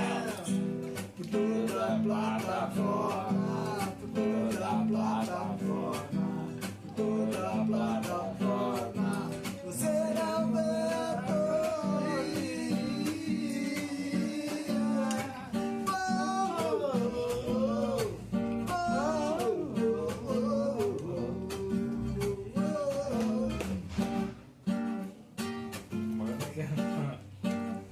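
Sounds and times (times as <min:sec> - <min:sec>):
person singing: 0:00.0 - 0:24.4
acoustic guitar strumming: 0:00.0 - 0:27.9.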